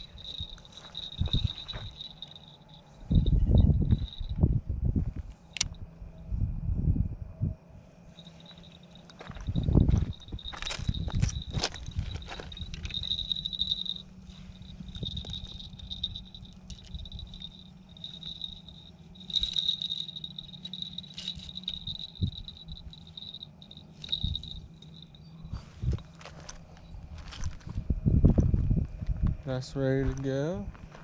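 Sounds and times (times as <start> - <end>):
crickets trilling: 0.0 - 4.5, 7.9 - 30.6.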